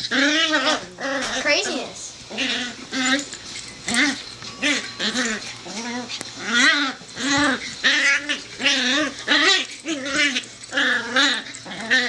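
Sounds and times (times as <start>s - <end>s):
dogs yipping and growling: 0.0s - 12.0s.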